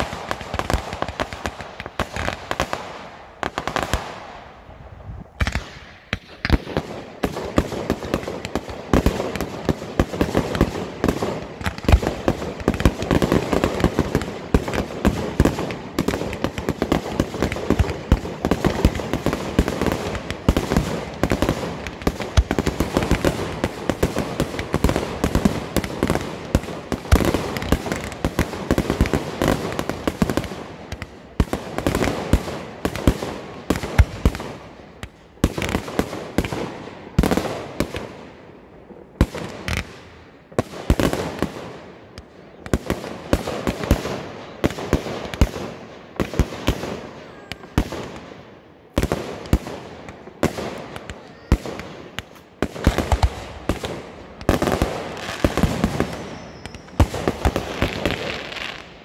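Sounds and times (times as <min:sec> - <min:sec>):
fireworks bursting overhead: 0:00.0 - 0:59.0.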